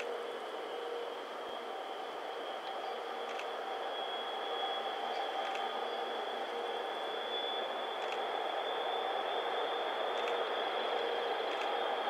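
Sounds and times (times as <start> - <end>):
distant diesel train running: 0.0 - 12.0.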